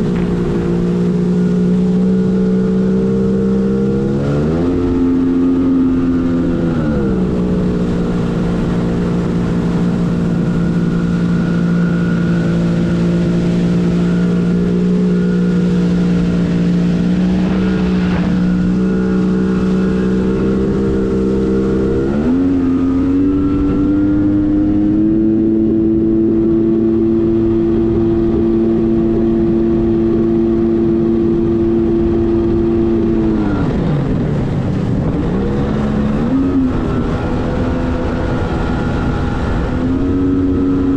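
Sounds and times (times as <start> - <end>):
water rushing: 0.0 - 40.9
watercraft engine running: 0.0 - 40.9.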